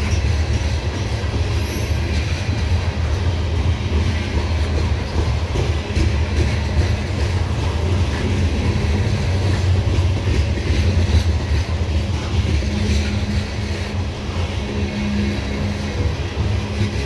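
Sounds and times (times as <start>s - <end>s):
freight train wheels rumbling on rail: 0.0s - 17.0s.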